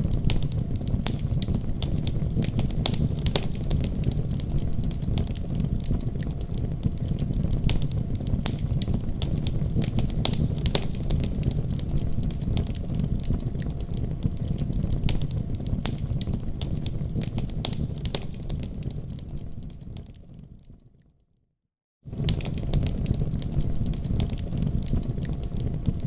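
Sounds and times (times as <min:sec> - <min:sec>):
low rumble of flames: 0:00.0 - 0:21.0, 0:22.1 - 0:26.0
fire crackles and pops: 0:00.0 - 0:21.2, 0:22.1 - 0:26.0.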